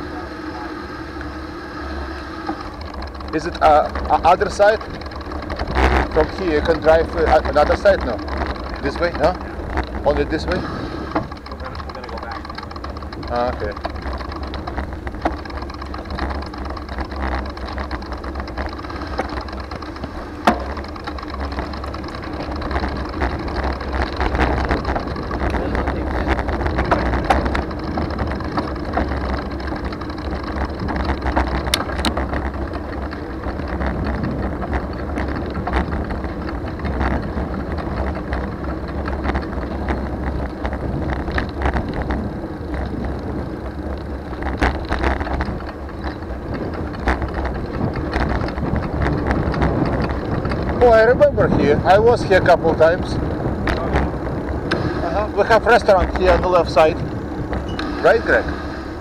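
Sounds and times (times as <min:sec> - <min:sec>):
bicycle tyres rolling: 0:00.0 - 0:59.0
wind rumble on microphone: 0:02.0 - 0:59.0
bicycle clicks: 0:02.4 - 0:59.0.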